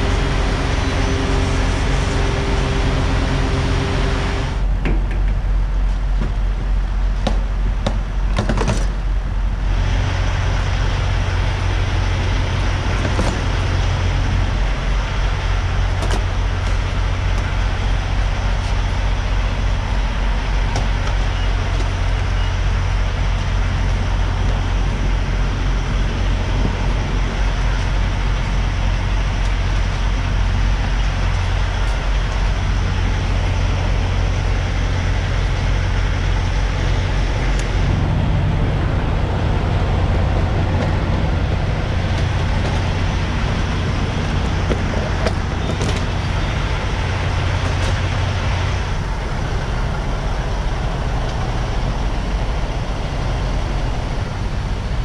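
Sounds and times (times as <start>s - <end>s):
road noise: 0.0s - 55.0s
truck engine drone: 0.0s - 55.0s.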